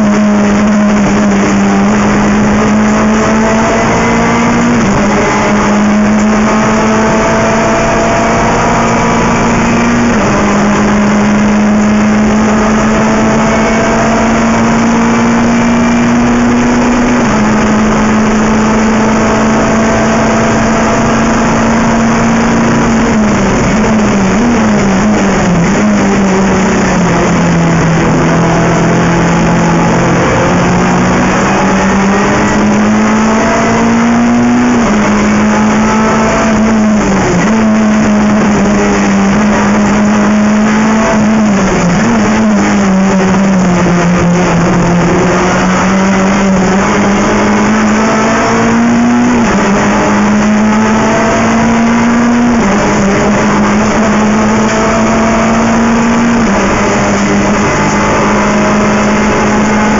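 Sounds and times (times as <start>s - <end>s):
race car engine accelerating: 0.0s - 59.9s
wind and road noise: 0.0s - 59.9s.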